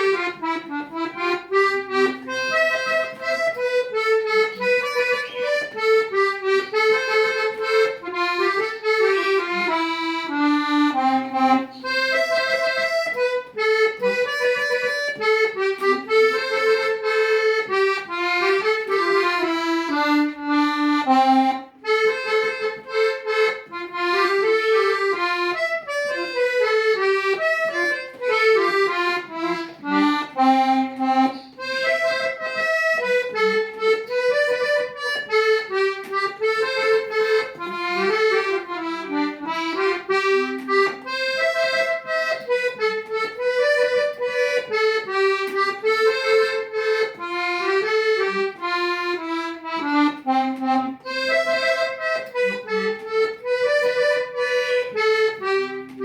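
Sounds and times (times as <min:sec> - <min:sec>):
accordion music: 0:00.0 - 0:56.0.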